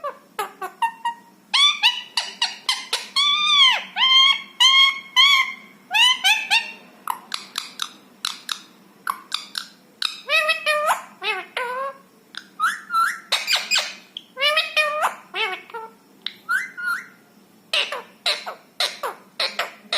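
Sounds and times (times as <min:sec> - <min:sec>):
parakeet calling and chattering: 0:00.0 - 0:19.9.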